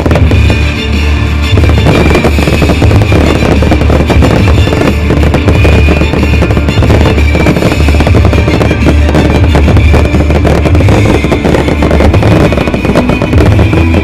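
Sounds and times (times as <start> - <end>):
fireworks crackling and booming: 0.0 - 14.0
loud music: 0.0 - 14.0.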